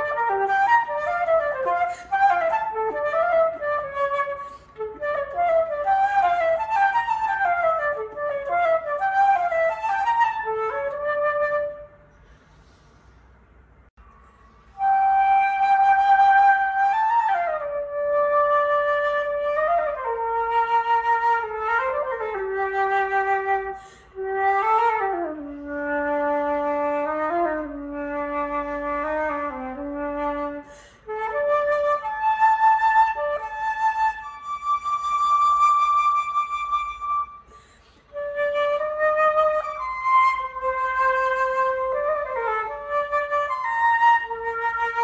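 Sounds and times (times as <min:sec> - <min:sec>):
flute melody: 0:00.0 - 0:12.0, 0:14.7 - 0:45.0.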